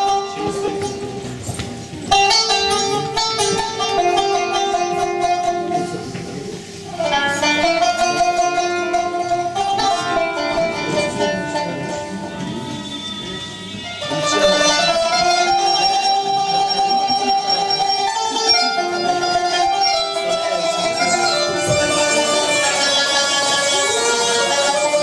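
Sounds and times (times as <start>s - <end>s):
qanun plucked melody: 0.0s - 25.0s.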